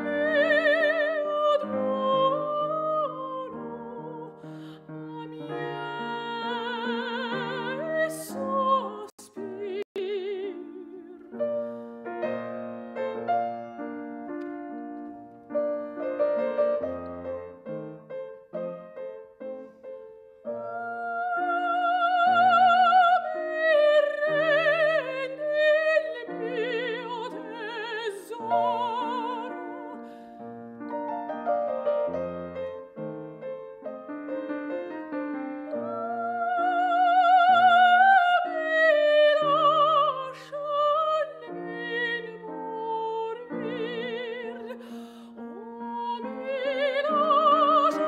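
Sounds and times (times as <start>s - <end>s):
grand piano accompaniment: 0.0s - 48.0s
soprano singing: 0.0s - 48.0s.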